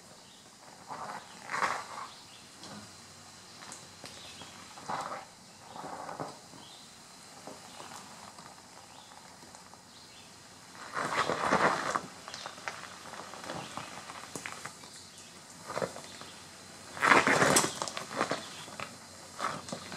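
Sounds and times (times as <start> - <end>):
outdoor background noise: 0.0 - 19.9
rock and gravel crunching: 0.0 - 19.9.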